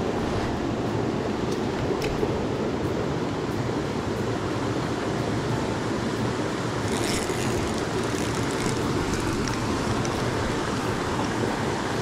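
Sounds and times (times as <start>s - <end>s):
water rushing in a stream: 0.0s - 12.0s.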